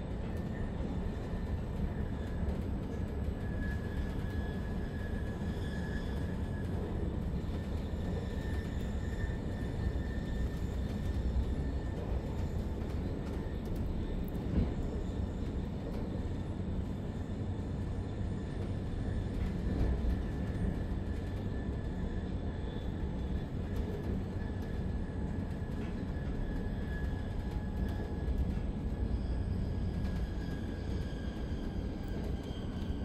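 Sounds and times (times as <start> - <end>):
train rumble from inside coach: 0.0 - 33.0.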